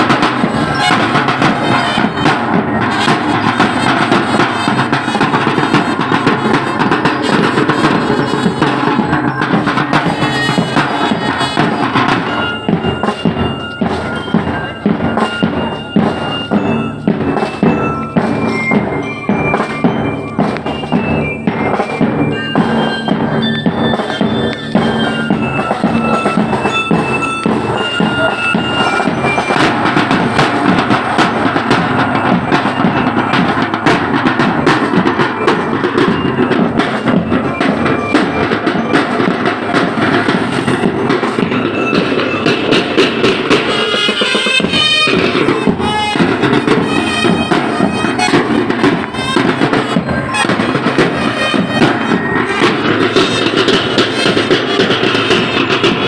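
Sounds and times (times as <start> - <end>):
bugle melody: 0.0 - 55.8
tenor drums: 0.0 - 56.0.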